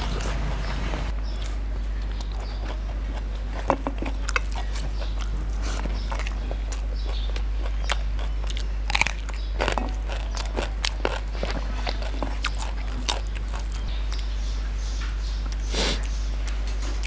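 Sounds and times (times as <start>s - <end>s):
low hum: 0.0s - 17.0s
man chewing and crunching food: 0.0s - 17.0s.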